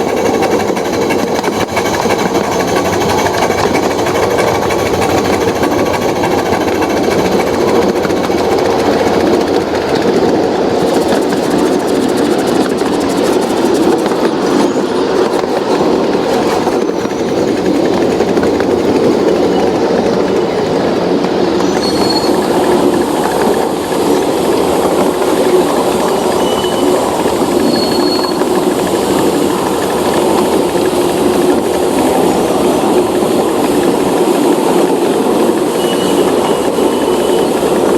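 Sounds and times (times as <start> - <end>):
machinery running: 0.0 - 37.9
train wheels clattering on rail: 0.0 - 37.9.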